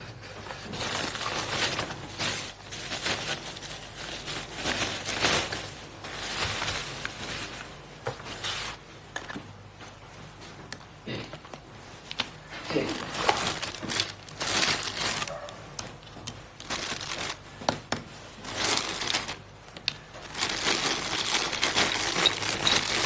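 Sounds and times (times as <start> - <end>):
objects rustling and clattering: 0.0 - 23.0.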